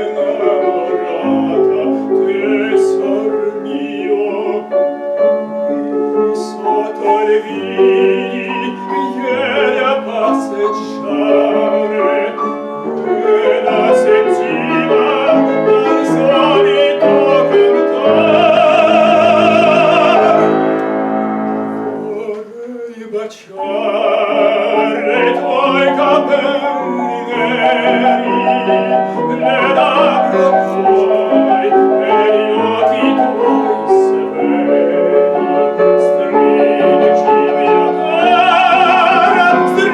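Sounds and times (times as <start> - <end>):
classical singing with vibrato: 0.0 - 39.9
piano accompaniment: 0.0 - 39.9.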